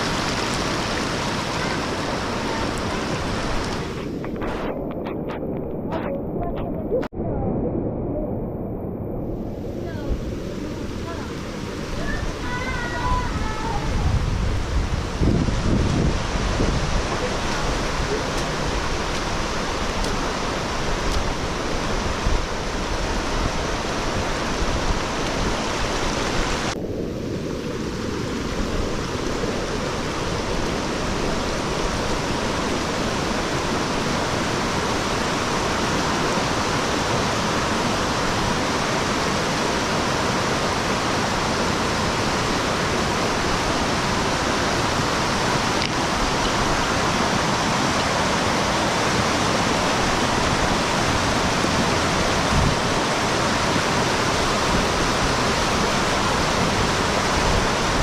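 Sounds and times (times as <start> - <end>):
floodwater rushing: 0.0 - 7.1, 8.3 - 58.0.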